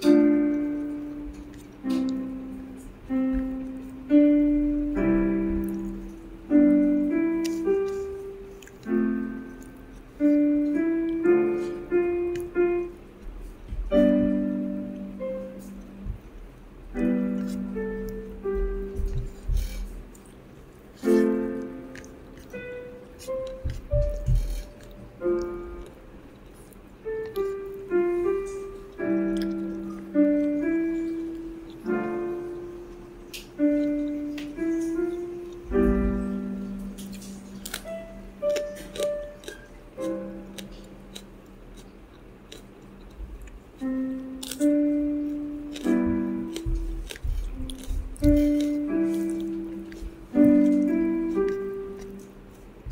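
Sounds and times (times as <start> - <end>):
slow piano melody: 0.0 - 52.9.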